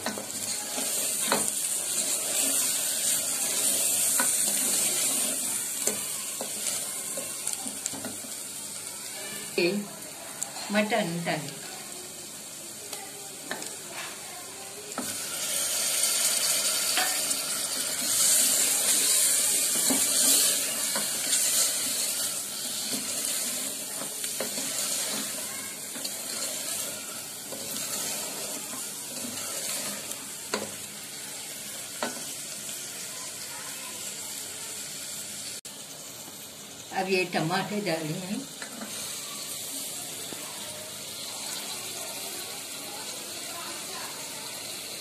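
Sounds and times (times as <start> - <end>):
meat sizzling in hot oil: 0.0 - 45.0.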